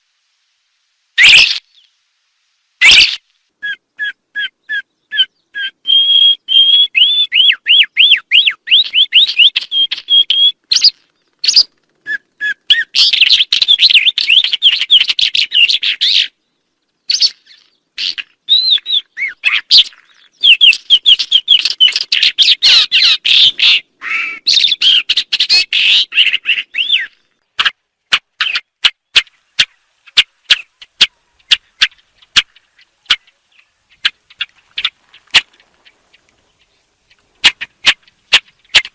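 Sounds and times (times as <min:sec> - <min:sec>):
songbird chirps and trills: 0:00.8 - 0:38.9.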